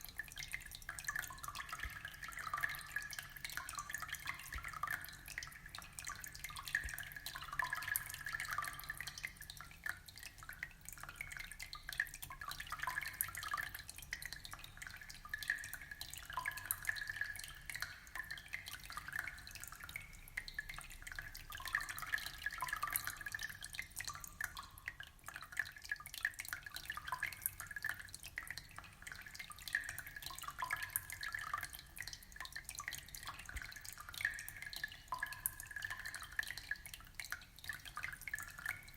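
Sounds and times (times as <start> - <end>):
aquarium water trickling: 0.0 - 38.9.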